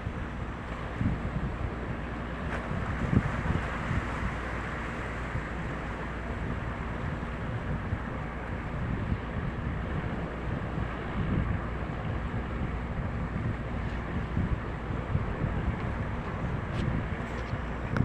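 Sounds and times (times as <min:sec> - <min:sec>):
boat engine drone: 0:00.0 - 0:18.0
wind buffeting microphone: 0:00.0 - 0:18.0.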